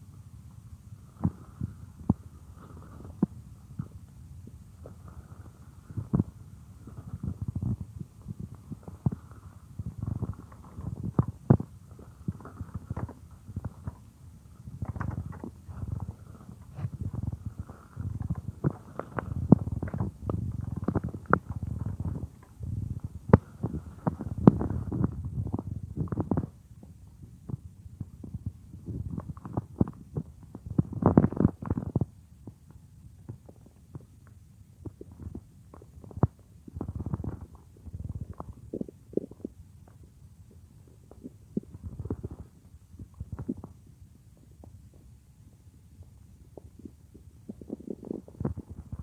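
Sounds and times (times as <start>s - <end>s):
stomach growling: 0.0s - 49.0s.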